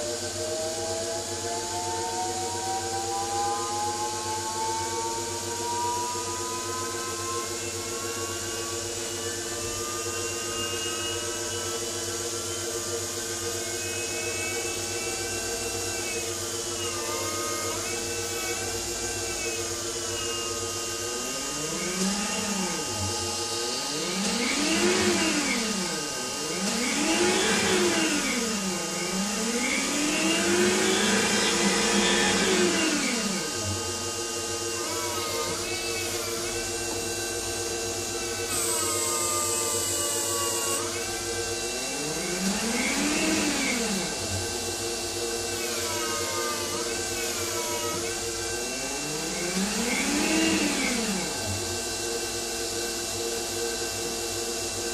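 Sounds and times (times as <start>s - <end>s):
electric motor whining: 0.0s - 54.9s.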